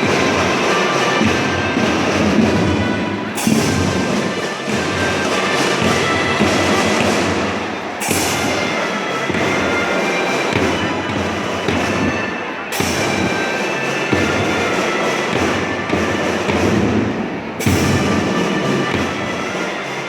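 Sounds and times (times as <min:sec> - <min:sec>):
cymbal crashes: 0:00.0 - 0:09.7, 0:10.5 - 0:14.5, 0:15.3 - 0:19.4
drum band playing: 0:00.0 - 0:20.0.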